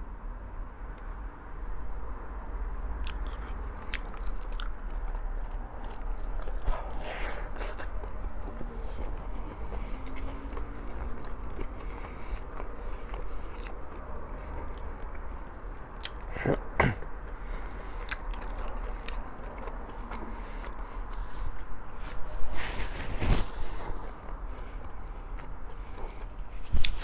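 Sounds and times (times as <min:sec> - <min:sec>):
low steady hum: 0:00.0 - 0:27.0
person chewing food: 0:03.0 - 0:27.0.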